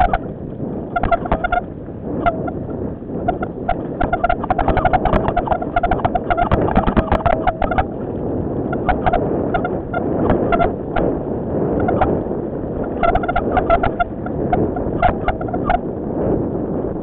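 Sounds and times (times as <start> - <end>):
bike rattling and clicking: 0.0 - 17.0
wind on microphone: 0.0 - 17.0.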